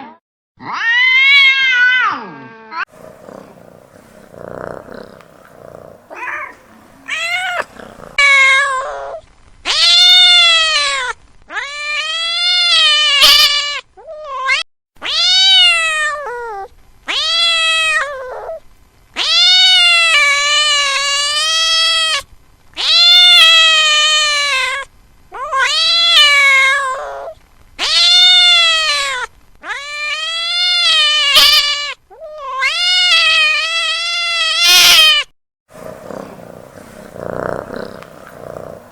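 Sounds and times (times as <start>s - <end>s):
cat yowling: 0.0s - 3.4s, 4.4s - 18.6s, 19.2s - 22.2s, 22.8s - 35.3s.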